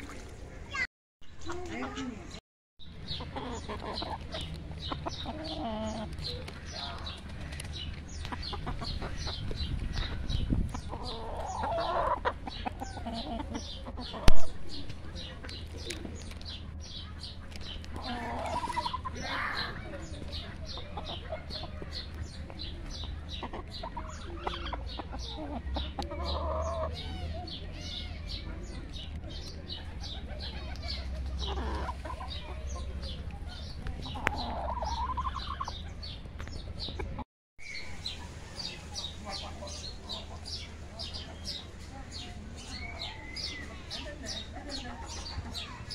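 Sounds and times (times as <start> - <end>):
roosters clucking and calling: 1.4 - 45.9.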